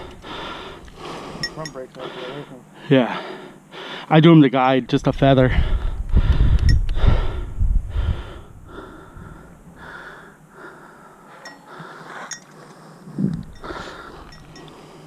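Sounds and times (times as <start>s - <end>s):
person breathing hard: 0.0s - 4.1s, 5.5s - 15.0s.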